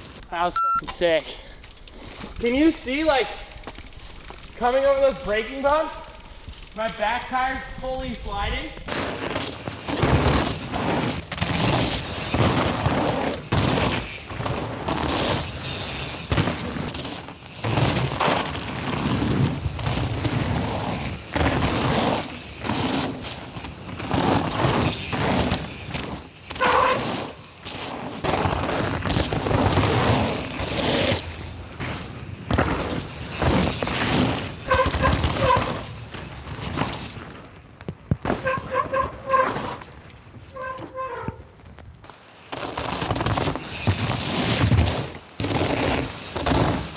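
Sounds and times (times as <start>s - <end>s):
bike tyres tearing through mud: 1.0s - 46.9s
bike clattering over bumps: 1.3s - 46.9s.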